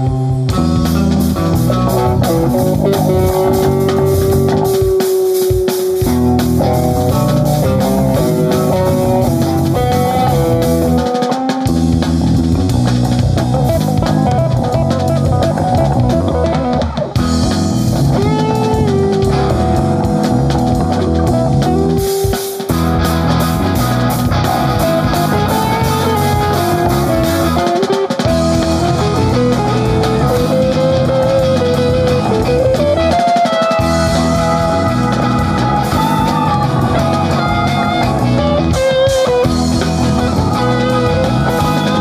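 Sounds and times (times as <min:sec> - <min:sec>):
bass guitar: 0:00.0 - 0:42.0
drum kit: 0:00.0 - 0:42.0
guitar lead line: 0:00.0 - 0:42.0.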